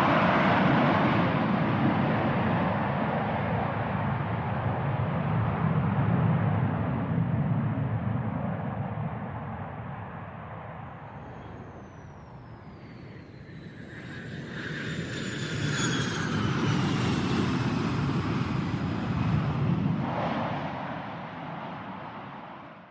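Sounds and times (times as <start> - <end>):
aircraft engine passing: 0.0 - 22.9.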